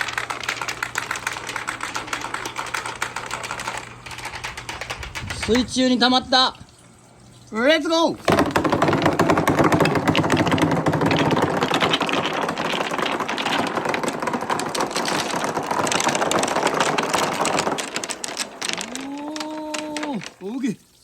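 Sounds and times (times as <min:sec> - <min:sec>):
marbles rolling and clattering: 0:00.0 - 0:06.6, 0:07.5 - 0:20.8.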